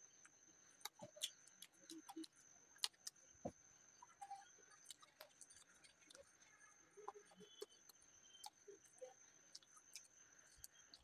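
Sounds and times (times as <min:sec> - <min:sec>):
faint high whine: 0:00.0 - 0:11.0
fingers tearing soft bread: 0:00.8 - 0:11.0.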